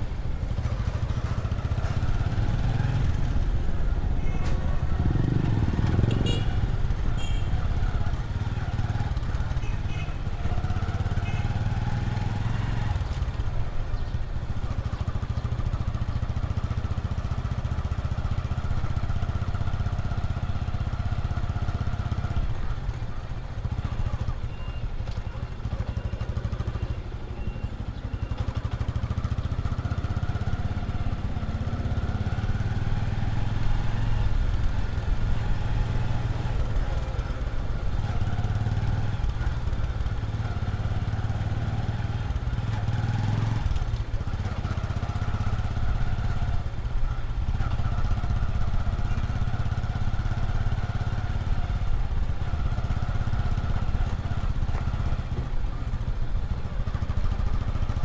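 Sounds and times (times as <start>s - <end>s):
small motorcycle engine running: 0.2s - 58.0s.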